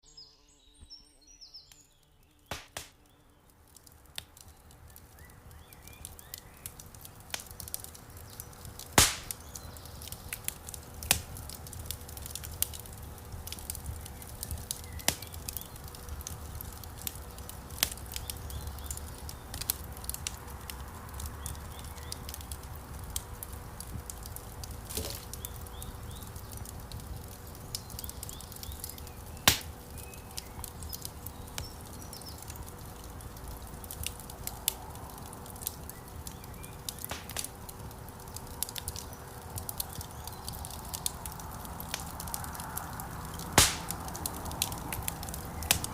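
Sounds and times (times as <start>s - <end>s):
wood fire crackling and popping: 2.4s - 45.9s.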